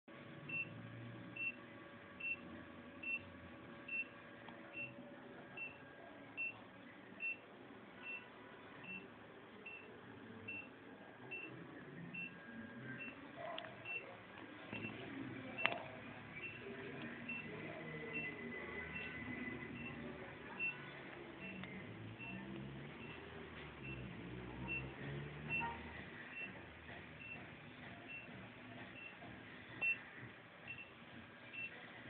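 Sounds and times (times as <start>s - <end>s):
heart monitor beeping: 0.4s - 0.8s, 1.4s - 1.6s, 2.2s - 5.8s, 7.2s - 31.8s.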